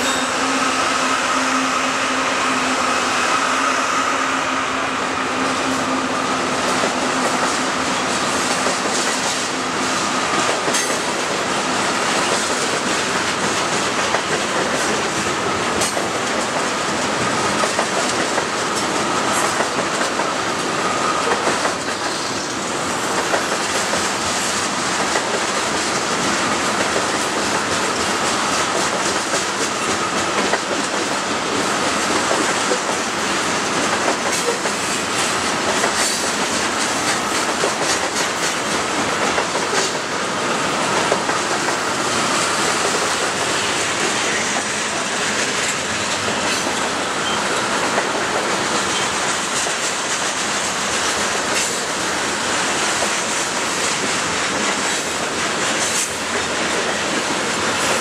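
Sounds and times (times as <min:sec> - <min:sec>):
train wheels rushing on rails: 0:00.0 - 0:58.0.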